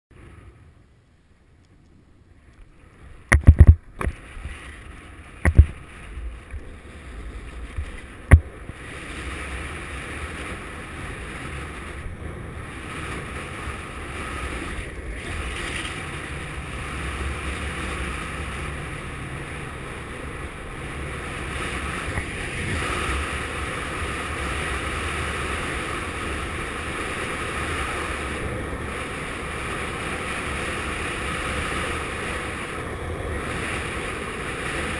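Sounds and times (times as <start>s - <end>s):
longboard wheels rolling on asphalt: 0.1s - 34.9s
wind noise on microphone: 1.8s - 34.9s.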